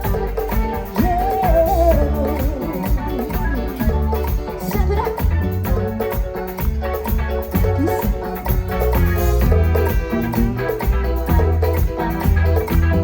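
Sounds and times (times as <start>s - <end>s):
latin pop band playing: 0.0s - 13.0s.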